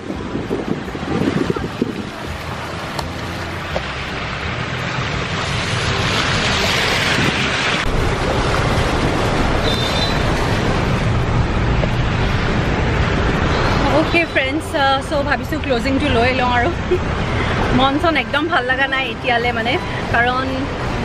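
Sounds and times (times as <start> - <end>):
car low rumble: 0.0 - 21.0
deep road rumble: 0.0 - 21.0
water washing around car tyres: 0.0 - 21.0.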